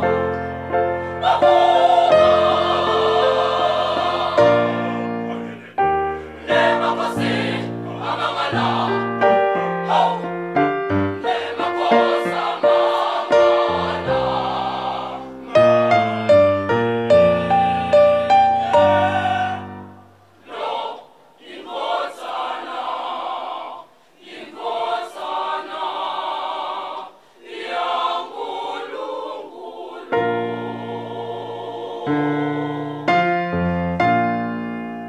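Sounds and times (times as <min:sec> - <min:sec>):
choir singing unaccompanied: 0:01.0 - 0:33.4.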